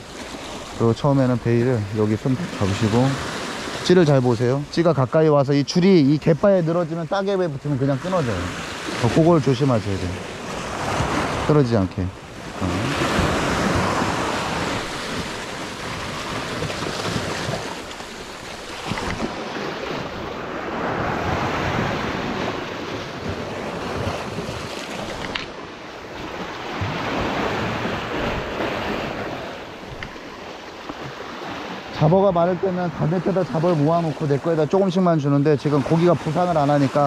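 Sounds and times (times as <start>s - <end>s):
sea waves on rocky shore: 0.0s - 37.0s.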